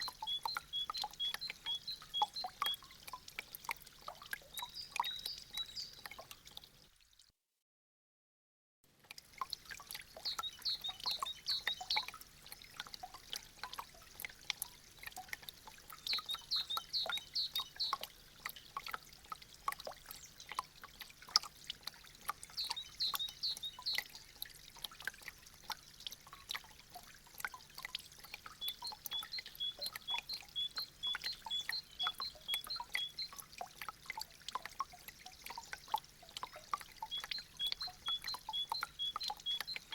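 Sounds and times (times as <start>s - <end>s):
meltwater dripping: 0.0s - 7.1s, 8.9s - 39.9s.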